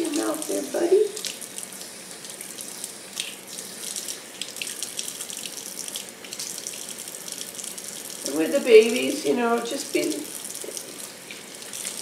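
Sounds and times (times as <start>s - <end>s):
faucet water running and splashing: 0.0s - 12.0s.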